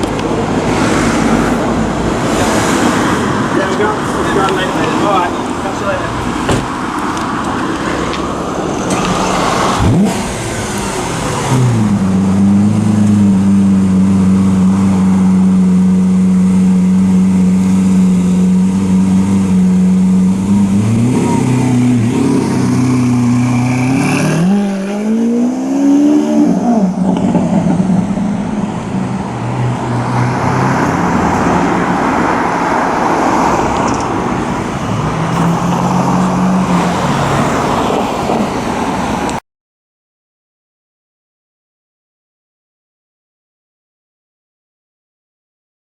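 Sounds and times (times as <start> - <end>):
car engine idling and revving: 0.0 - 39.4.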